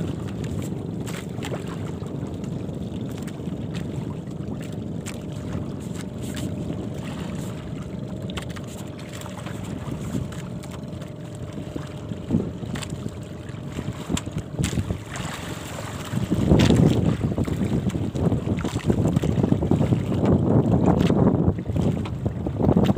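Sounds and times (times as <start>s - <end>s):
sea noise: 0.0s - 22.9s
wind buffeting microphone: 0.0s - 22.9s.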